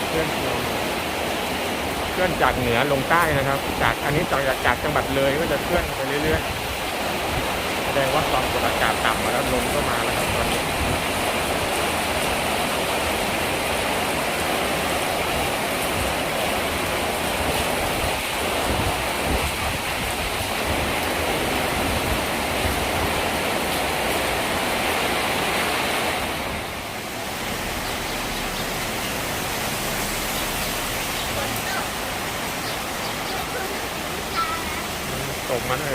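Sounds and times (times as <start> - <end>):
gusty storm wind: 0.0 - 35.6
rain: 0.0 - 35.9.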